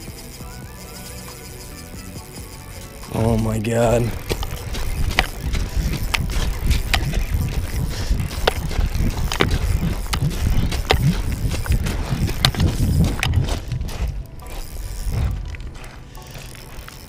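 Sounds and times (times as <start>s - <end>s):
sharp clicks and knocks: 0.0s - 17.0s
low handling rumble: 3.0s - 17.0s.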